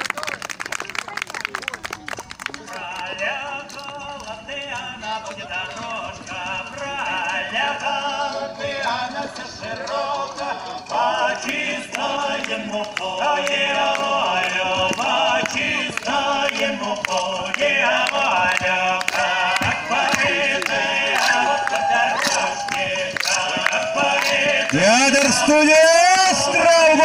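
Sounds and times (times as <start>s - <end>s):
group of voices singing: 2.8s - 27.0s
steady rhythmic beat: 3.1s - 27.0s.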